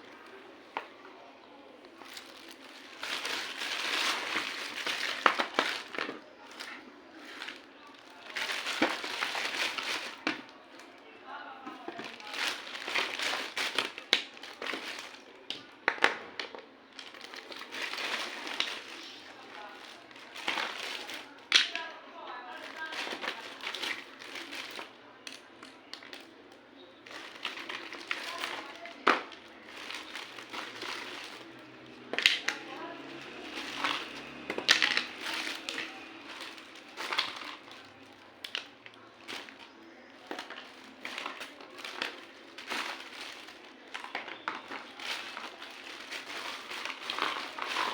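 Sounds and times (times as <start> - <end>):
plastic packaging rustling: 0.0 - 11.1, 11.7 - 47.9.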